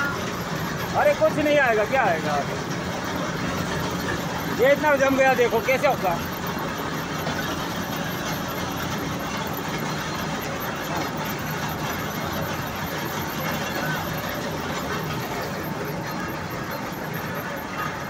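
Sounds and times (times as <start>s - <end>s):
plant machinery running: 0.0s - 18.0s.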